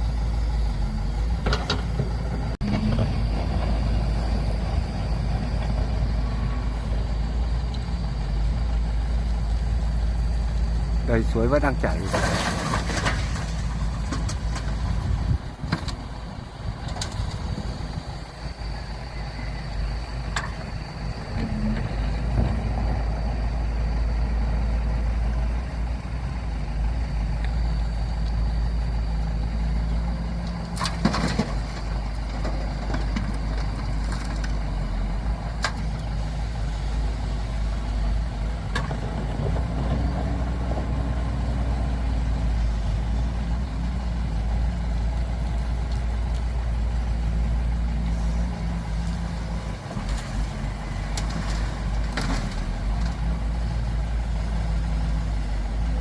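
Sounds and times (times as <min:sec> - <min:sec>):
heavy machinery engines rumbling: 0:00.0 - 0:56.0.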